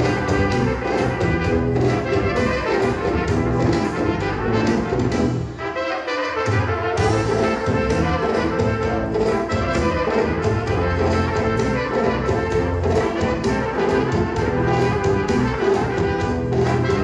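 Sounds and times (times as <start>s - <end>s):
brass band music: 0.0s - 17.0s.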